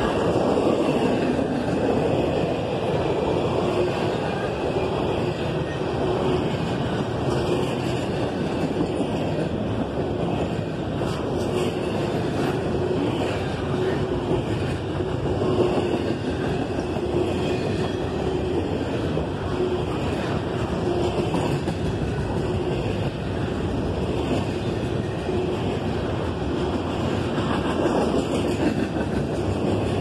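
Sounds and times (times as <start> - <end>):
freight train wheels on rails: 0.0 - 30.0.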